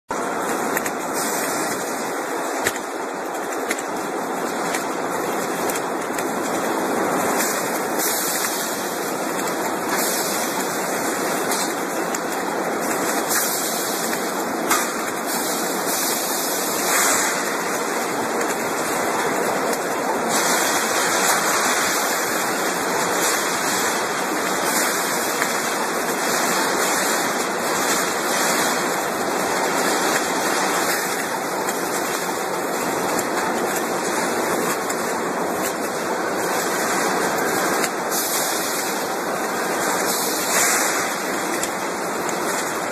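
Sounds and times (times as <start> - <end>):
welding machine hissing: 0.1 - 42.9.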